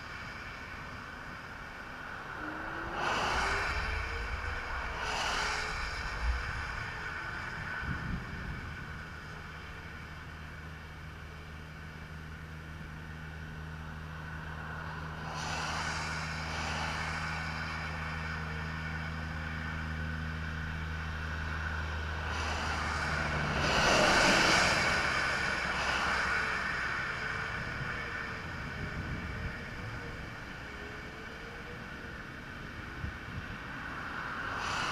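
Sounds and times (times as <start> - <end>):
highway traffic passing: 0.0 - 34.9
low engine hum: 0.0 - 34.9.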